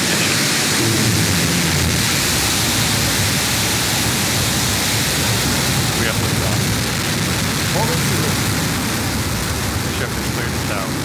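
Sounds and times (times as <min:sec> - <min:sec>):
rocket engine roaring: 0:00.0 - 0:11.0.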